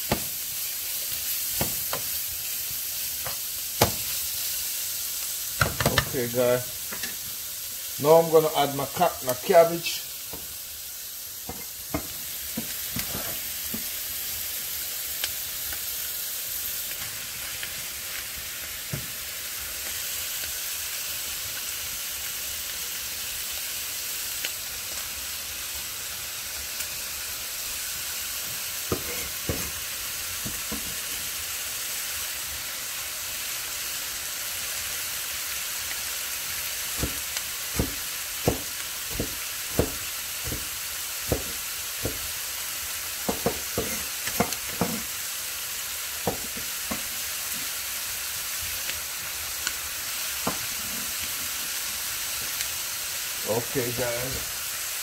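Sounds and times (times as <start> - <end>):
food sizzling in a skillet: 0.0 - 55.0.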